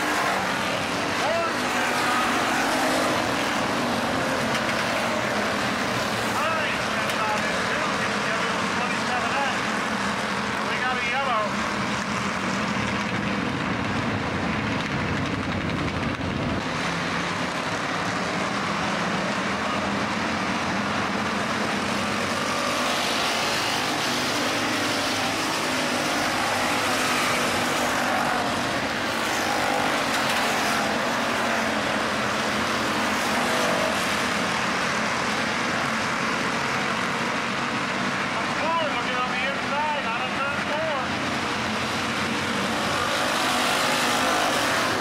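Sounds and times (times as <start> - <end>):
race car engines: 0.0 - 45.0.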